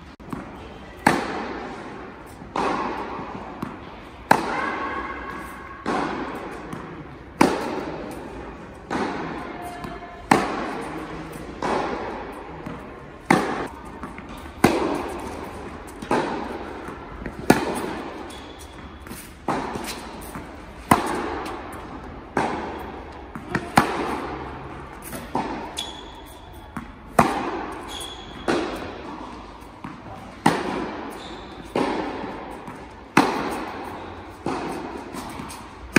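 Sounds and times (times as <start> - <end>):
rackets striking tennis ball: 0.0 - 35.9
tennis ball bouncing: 0.1 - 35.9.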